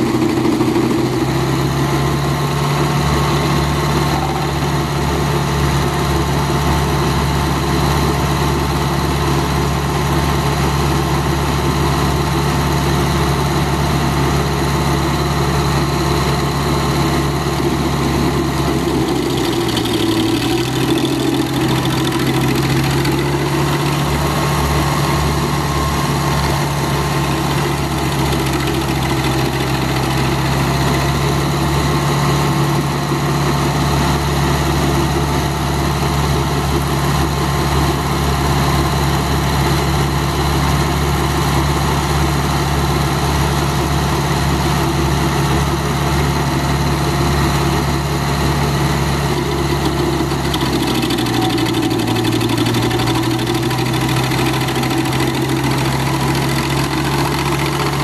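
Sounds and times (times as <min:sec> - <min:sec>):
stump grinder running: 0:00.0 - 0:58.0.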